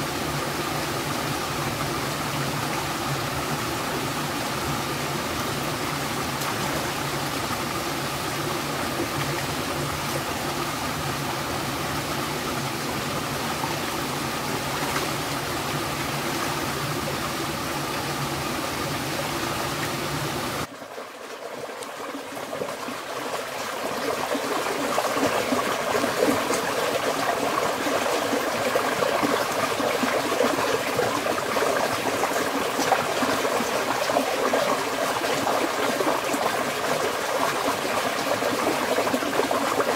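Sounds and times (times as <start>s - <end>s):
stream water trickling over rocks: 0.0s - 39.9s.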